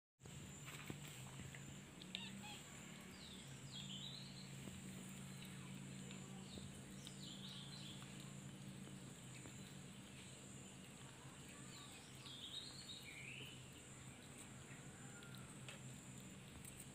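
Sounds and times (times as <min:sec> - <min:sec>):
small birds chirping: 0:00.2 - 0:16.9
steady low hum: 0:00.2 - 0:16.9.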